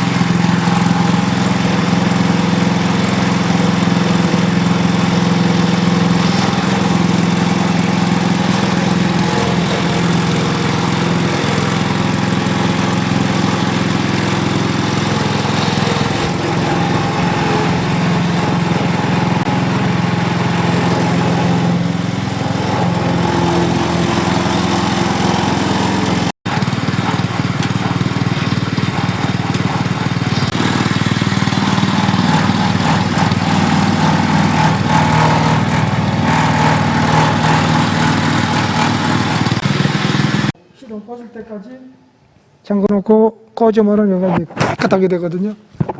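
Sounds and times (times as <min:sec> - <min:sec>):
small gasoline engine running: 0:00.0 - 0:40.6.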